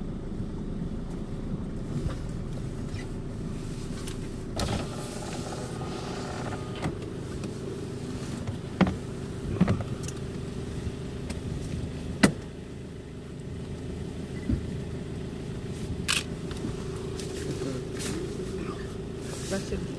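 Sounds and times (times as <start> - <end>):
engine and tyre rumble on gravel: 0.0 - 19.9.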